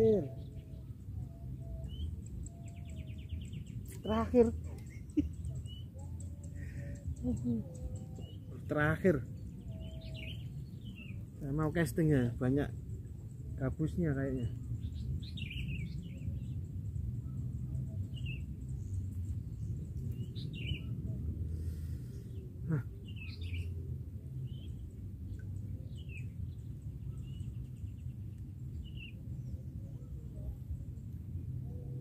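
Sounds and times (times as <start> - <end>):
low background rumble: 0.0 - 32.0
small birds chirping: 0.0 - 32.0.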